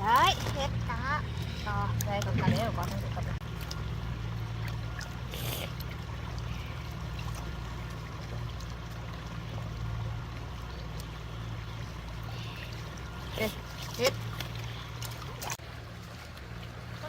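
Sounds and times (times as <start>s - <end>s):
low hum: 0.0s - 17.0s
stream water trickling: 0.0s - 17.0s.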